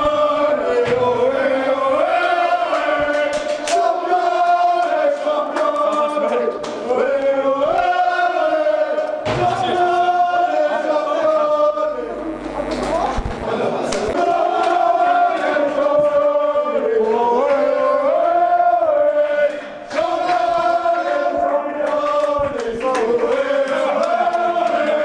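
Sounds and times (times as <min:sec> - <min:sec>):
men chanting in unison: 0:00.0 - 0:12.4, 0:13.4 - 0:25.0.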